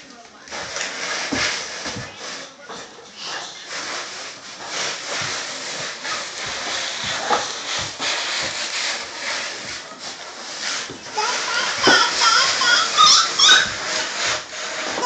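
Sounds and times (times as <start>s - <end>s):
cardboard box scraping on wood floor: 0.0s - 15.0s.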